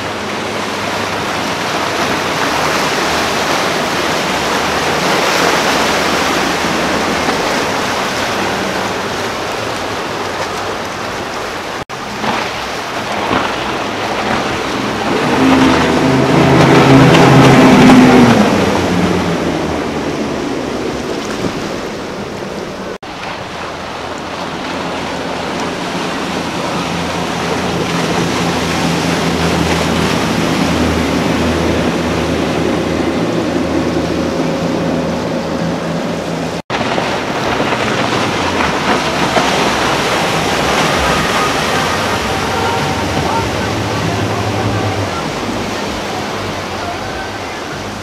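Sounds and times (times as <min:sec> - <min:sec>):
boat wake and spray rushing: 0:00.0 - 0:48.0
outboard motor drone: 0:00.0 - 0:48.0.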